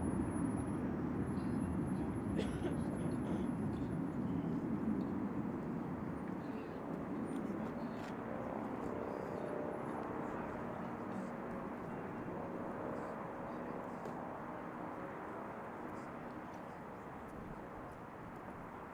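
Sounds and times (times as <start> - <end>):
distant jet aircraft engine: 0.0 - 18.9.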